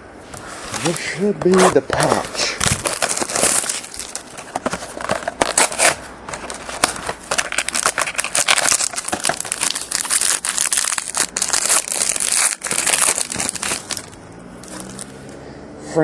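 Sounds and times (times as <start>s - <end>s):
cards being handled: 0.3s - 15.2s
plastic wrapper crinkling: 0.8s - 15.2s.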